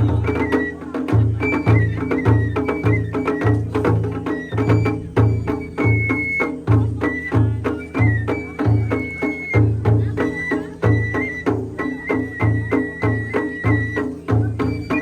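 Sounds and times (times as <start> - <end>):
deep drums beating: 0.0 - 15.0.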